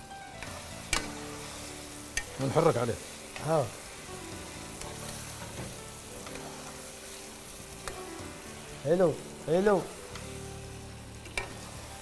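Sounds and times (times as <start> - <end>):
fish frying in oil: 0.3 - 12.0.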